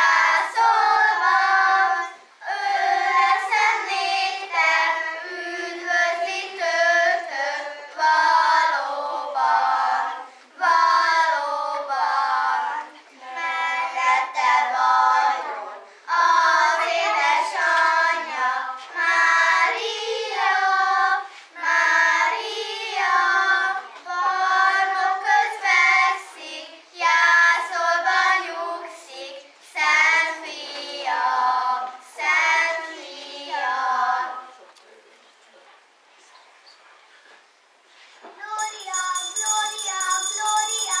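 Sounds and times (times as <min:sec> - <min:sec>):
young children singing: 0:00.0 - 0:34.8, 0:38.3 - 0:41.0.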